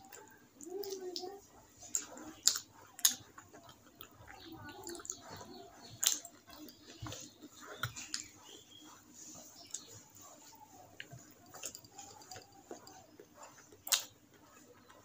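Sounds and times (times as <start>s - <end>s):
chewing and mouth smacks: 0.0s - 15.0s
fingers squishing food: 0.0s - 15.0s.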